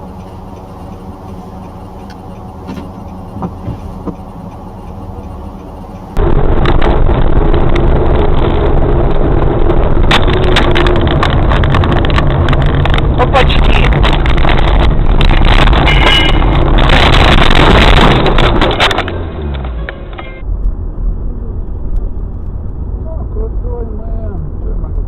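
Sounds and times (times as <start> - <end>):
car engine and road hum: 0.0 - 25.0
rough driving noise with crackles: 0.0 - 25.0.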